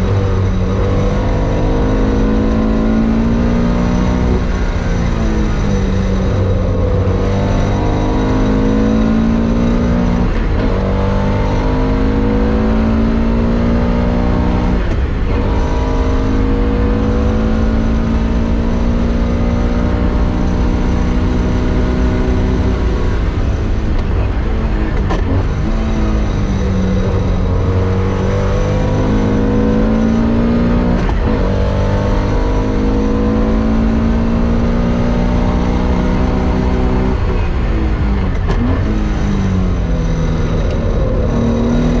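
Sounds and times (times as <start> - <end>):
race car engine at full load: 0.0 - 42.0.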